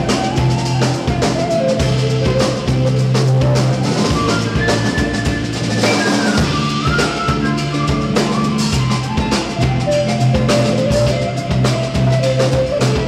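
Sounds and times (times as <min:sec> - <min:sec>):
drum kit beat: 0:00.0 - 0:13.0
electric bass line: 0:00.0 - 0:13.0
flute playing long notes: 0:00.0 - 0:13.0.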